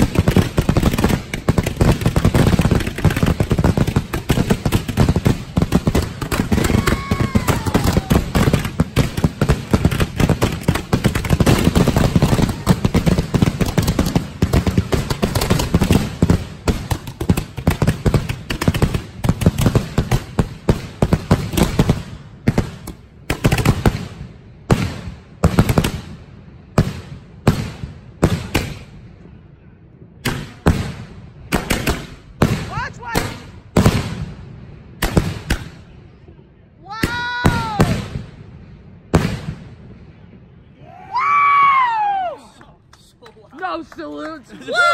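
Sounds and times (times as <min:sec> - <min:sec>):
fireworks bangs: 0:00.0 - 0:29.3, 0:30.2 - 0:36.1, 0:36.8 - 0:40.7.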